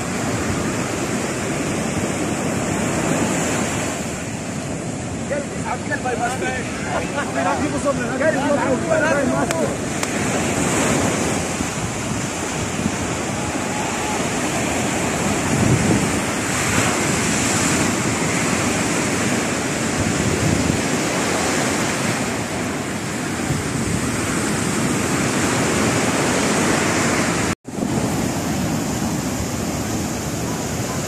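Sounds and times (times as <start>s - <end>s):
sea surf breaking on beach: 0.0s - 31.0s
wind rumbling on microphone: 0.0s - 31.0s.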